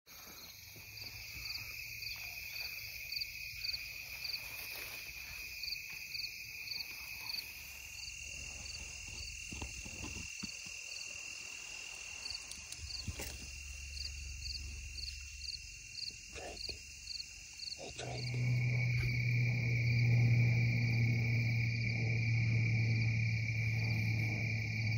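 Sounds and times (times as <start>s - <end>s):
insects trilling: 0.1s - 24.9s
pulsing insect chirp: 0.1s - 24.9s.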